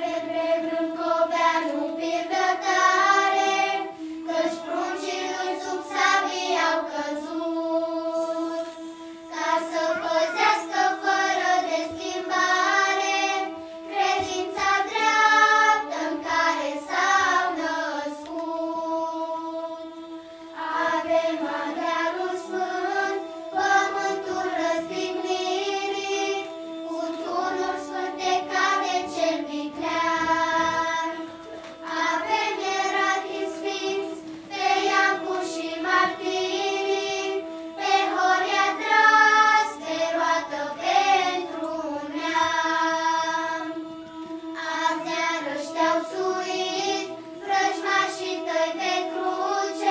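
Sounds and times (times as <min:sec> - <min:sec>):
children's choir singing: 0:00.0 - 0:49.9.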